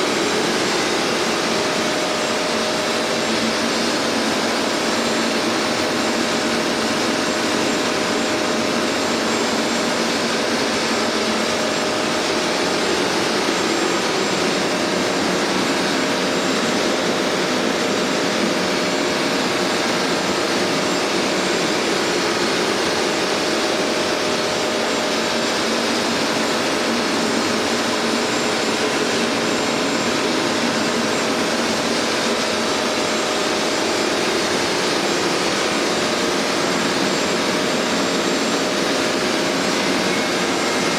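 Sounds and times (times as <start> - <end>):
carpet cleaner motor whirring: 0.0 - 40.9.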